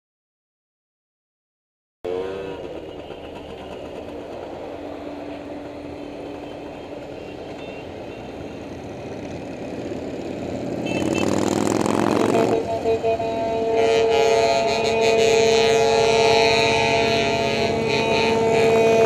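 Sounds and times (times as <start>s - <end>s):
heavy truck engines rumbling: 2.1s - 19.0s.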